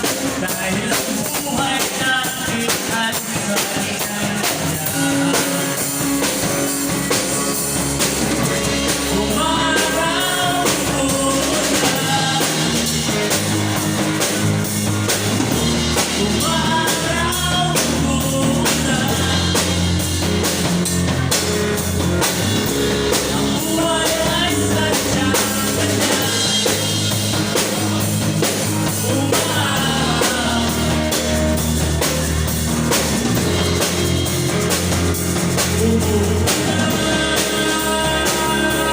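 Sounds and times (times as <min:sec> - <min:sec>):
rock music with singing: 0:00.0 - 0:38.9.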